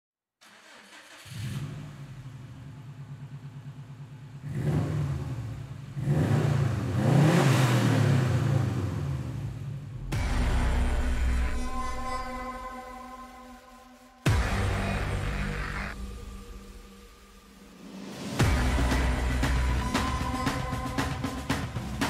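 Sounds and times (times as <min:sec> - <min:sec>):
car engine starting and idling: 0:00.4 - 0:11.5, 0:14.2 - 0:22.0
car engine revving: 0:00.4 - 0:11.6, 0:14.0 - 0:22.0.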